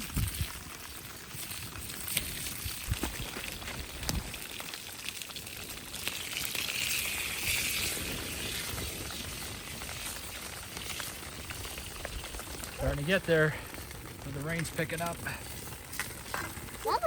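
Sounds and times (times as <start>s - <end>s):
campfire crackling and sizzling: 0.0s - 17.0s
rain pattering: 0.0s - 17.0s.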